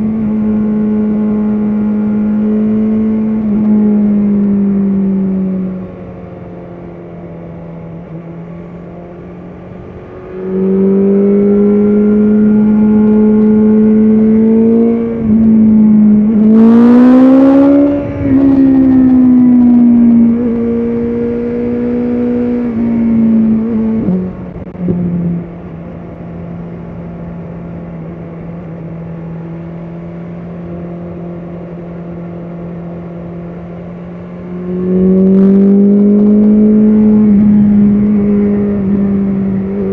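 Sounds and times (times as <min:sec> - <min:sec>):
motorcycle engine revving: 0:00.0 - 0:25.5, 0:28.7 - 0:39.9.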